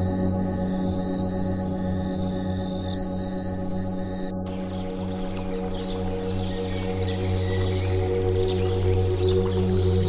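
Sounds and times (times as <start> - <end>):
low drone tones: 0.0 - 10.0.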